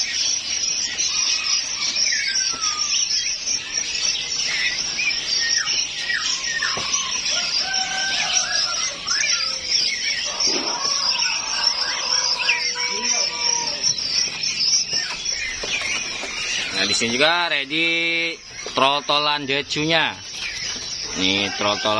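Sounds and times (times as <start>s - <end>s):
songbirds chirping and whistling: 0.0s - 21.9s.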